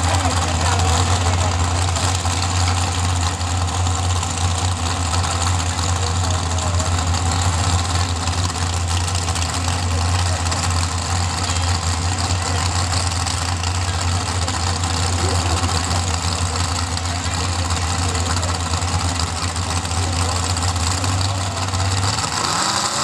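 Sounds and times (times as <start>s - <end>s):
truck engines idling: 0.0s - 23.0s.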